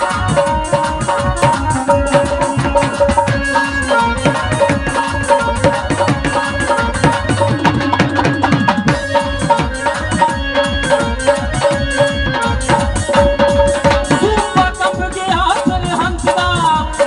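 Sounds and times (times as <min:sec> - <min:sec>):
held electronic keyboard notes: 0:00.0 - 0:15.4
barrel drum fast beat: 0:00.0 - 0:17.0.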